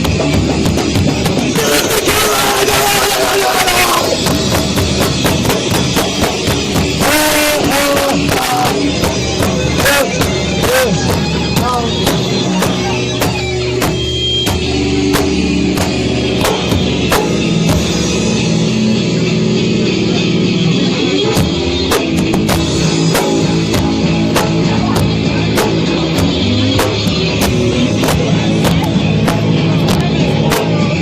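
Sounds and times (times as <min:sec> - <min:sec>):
bass guitar: 0:00.0 - 0:31.0
distorted guitar: 0:00.0 - 0:31.0
drum kit playing: 0:00.0 - 0:31.0.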